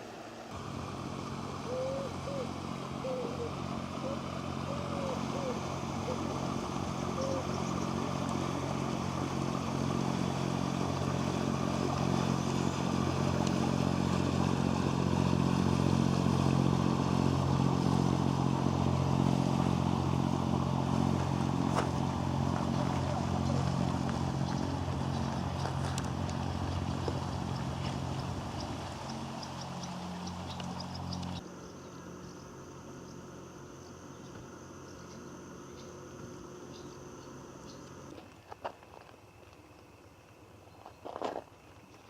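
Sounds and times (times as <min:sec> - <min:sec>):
engine running steadily: 0:00.0 - 0:42.0.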